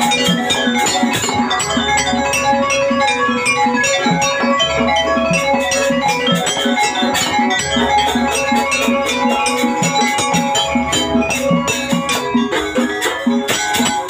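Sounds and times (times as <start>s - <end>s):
drums: 0.0s - 14.0s
ringing tuned metal percussion: 0.0s - 14.0s.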